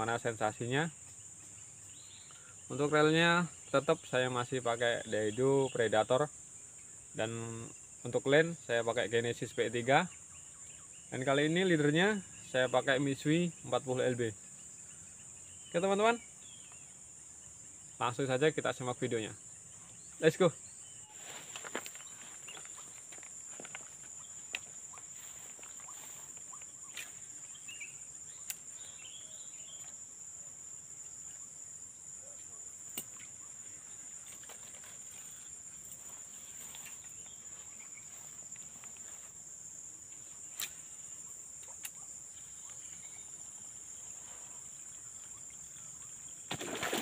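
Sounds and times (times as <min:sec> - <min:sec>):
insects chorus with fast pulse: 0:00.0 - 0:47.0.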